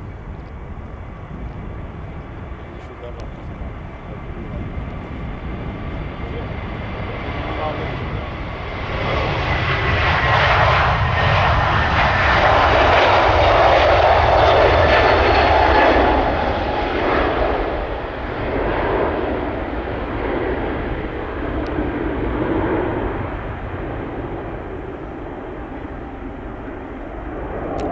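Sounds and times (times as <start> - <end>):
jet engines at takeoff: 0.0 - 27.9.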